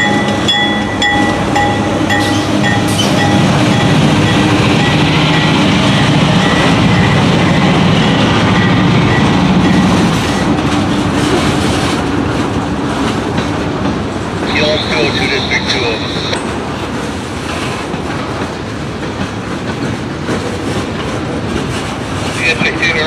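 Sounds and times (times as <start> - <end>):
freight train rolling past: 0.0 - 23.0
wheels clickety-clack: 1.0 - 14.6, 16.4 - 23.0.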